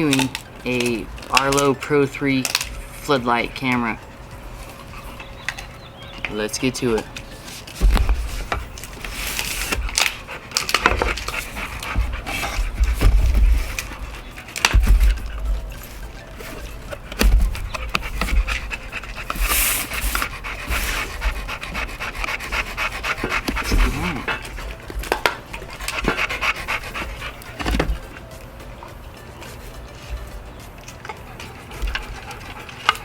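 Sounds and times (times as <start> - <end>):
dog panting: 0.0 - 33.0.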